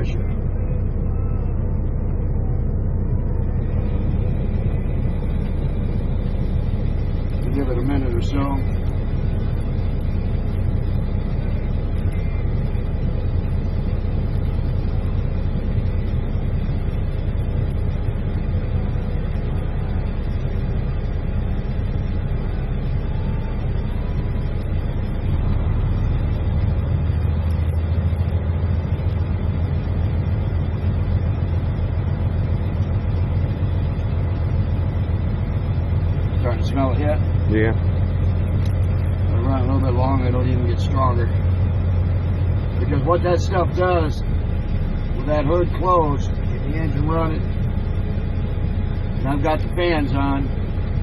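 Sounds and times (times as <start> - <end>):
cab fans blowing: 0.0 - 51.0
diesel engine idling: 0.0 - 51.0.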